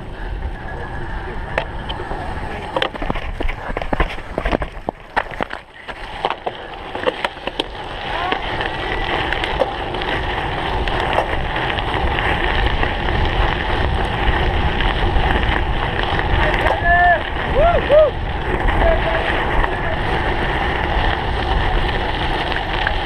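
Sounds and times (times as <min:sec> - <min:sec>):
bike clicks and rattles: 0:00.0 - 0:23.0
wind rushing over microphone: 0:00.0 - 0:23.0.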